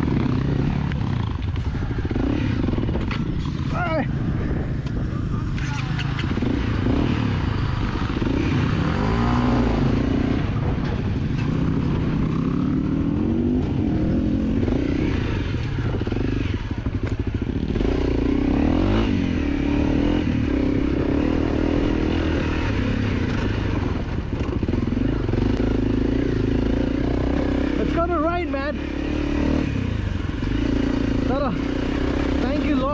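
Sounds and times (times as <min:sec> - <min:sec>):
dirt bike engine revving: 0:00.0 - 0:32.9.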